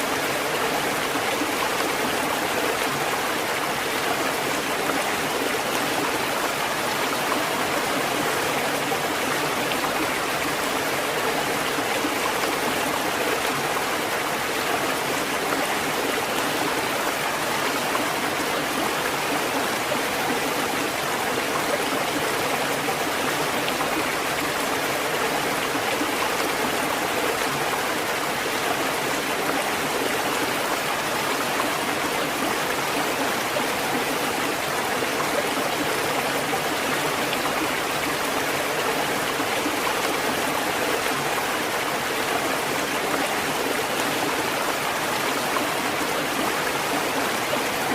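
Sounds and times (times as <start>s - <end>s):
rushing water: 0.0s - 47.9s.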